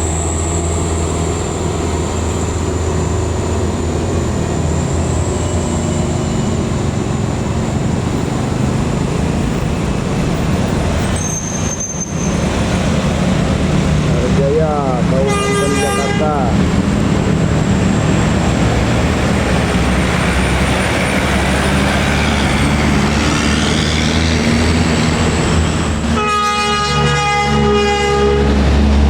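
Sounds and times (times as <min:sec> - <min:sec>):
diesel vehicle engine drone: 0:00.0 - 0:29.0
road noise: 0:00.0 - 0:29.0.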